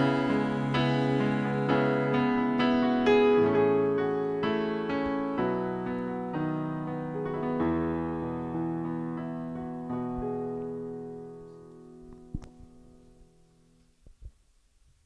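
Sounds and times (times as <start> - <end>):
piano playing slow chords: 0.0 - 13.8.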